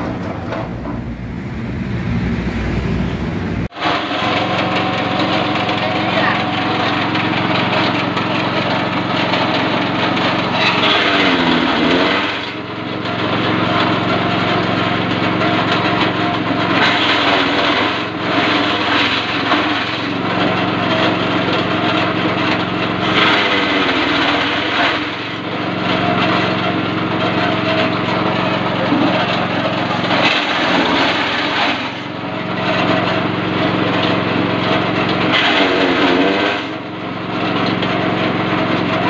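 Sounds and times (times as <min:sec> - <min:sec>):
grass chopper rattling: 0:00.0 - 0:39.0
petrol engine running: 0:00.0 - 0:39.0.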